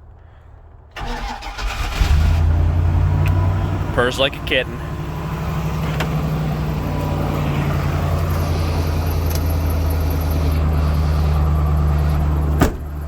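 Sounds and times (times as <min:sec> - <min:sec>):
pickup engine idling: 0:01.0 - 0:13.0.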